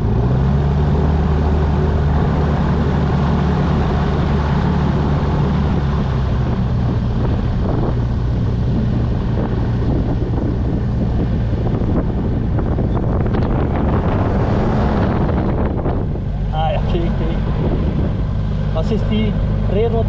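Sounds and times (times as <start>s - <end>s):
aircraft engine and propeller drone: 0.0s - 20.0s
wind buffeting microphone: 0.0s - 20.0s.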